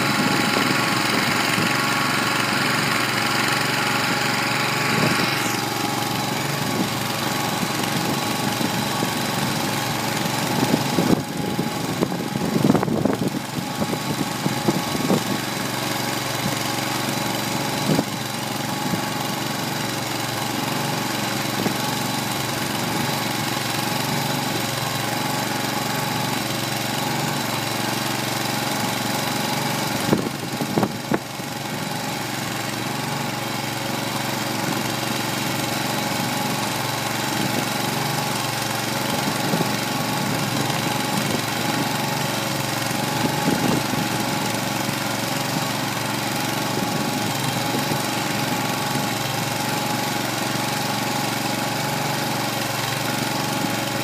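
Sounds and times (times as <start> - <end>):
gasoline engine running under load: 0.0 - 54.0.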